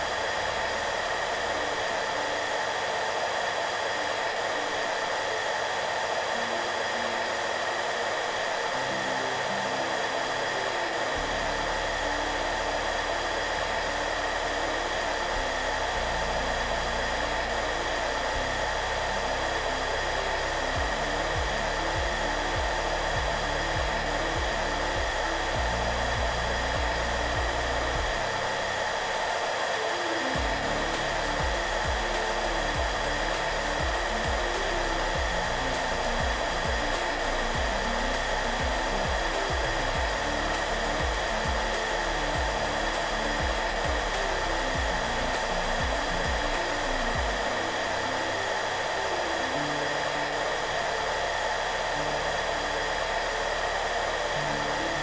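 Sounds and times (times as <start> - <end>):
hair dryer running: 0.0 - 55.0
soft background music: 0.0 - 55.0.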